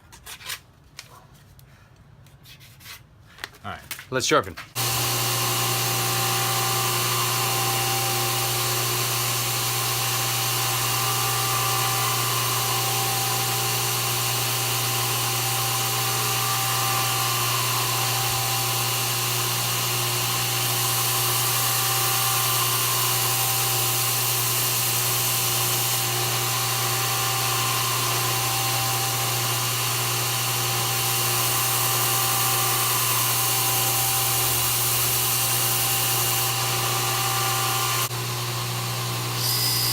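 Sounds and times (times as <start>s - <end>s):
electric grinder motor hum: 4.8s - 39.9s.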